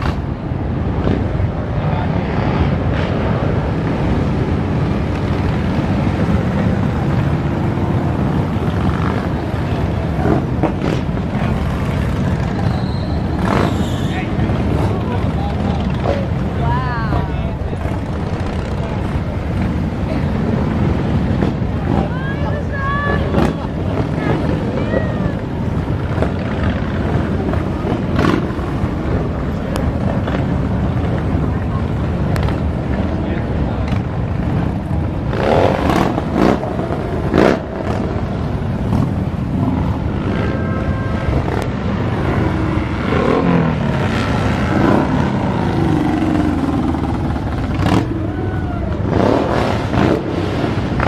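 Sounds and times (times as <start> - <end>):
motorcycles rumbling: 0.0 - 51.0.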